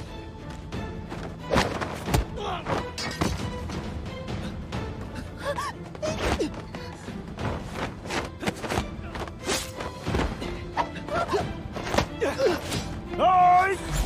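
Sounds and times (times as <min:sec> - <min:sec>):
action soundtrack music: 0:00.0 - 0:14.0.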